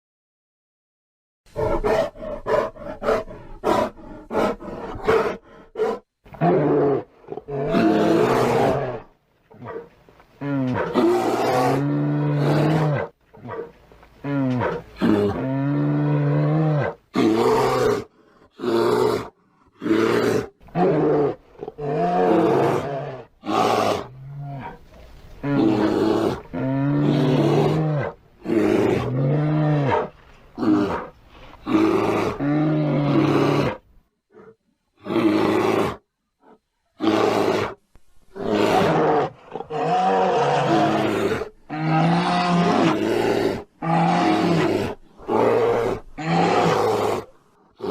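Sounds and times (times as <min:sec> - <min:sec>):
bear roaring: 0:01.5 - 0:36.0, 0:37.0 - 0:47.9.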